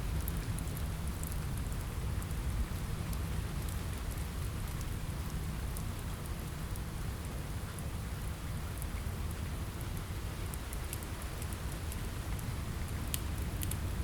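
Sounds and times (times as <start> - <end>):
rain on a window: 0.0 - 14.0.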